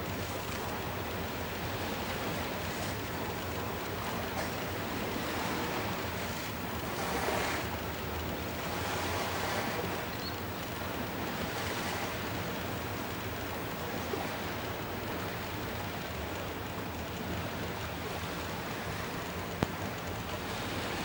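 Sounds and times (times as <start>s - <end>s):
sea waves: 0.0s - 21.0s
wind: 0.0s - 21.0s.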